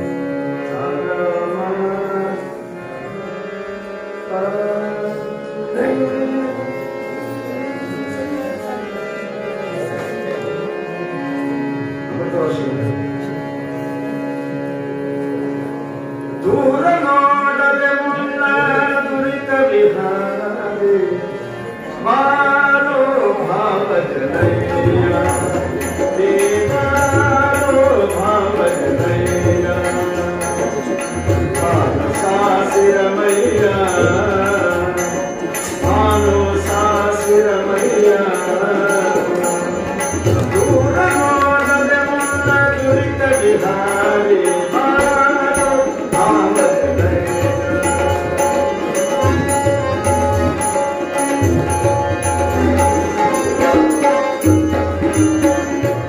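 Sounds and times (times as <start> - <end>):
man singing devotional song: 0.0 - 15.2, 16.0 - 56.0
harmonium: 0.0 - 56.0.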